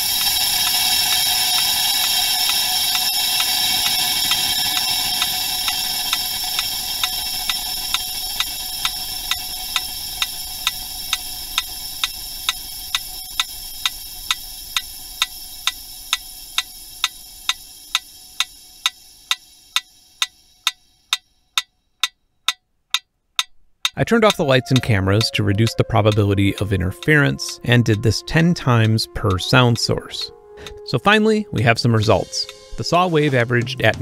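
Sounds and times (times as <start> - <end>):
metronome ticking: 0.0 - 33.1.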